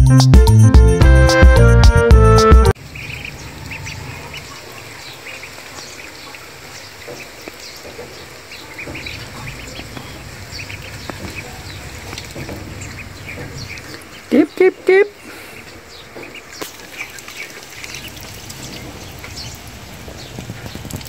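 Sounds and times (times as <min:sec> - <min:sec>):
ducklings peeping: 0:02.8 - 0:21.0.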